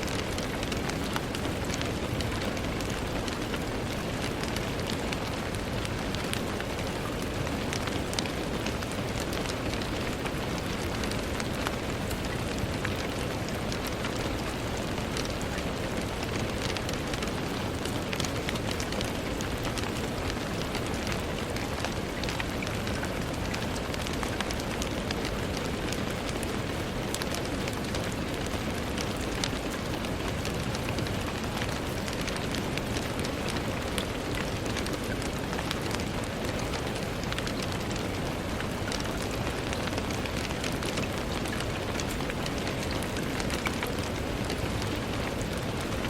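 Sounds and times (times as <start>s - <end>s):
rain drops on hard surface: 0.0s - 46.0s.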